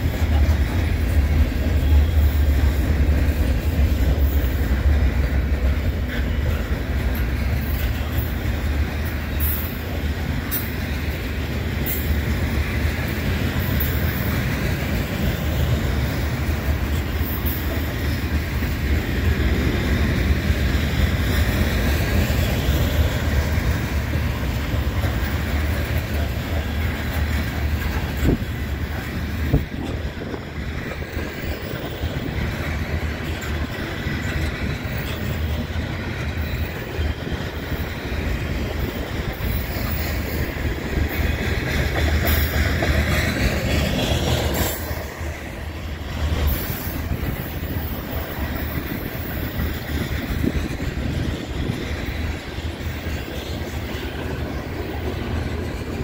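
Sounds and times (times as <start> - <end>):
train wheels rumbling and clicking: 0.0 - 56.0.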